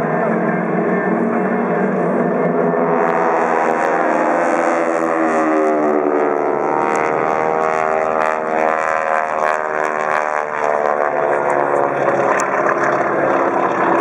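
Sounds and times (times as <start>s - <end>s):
propeller planes droning overhead: 0.0s - 14.0s.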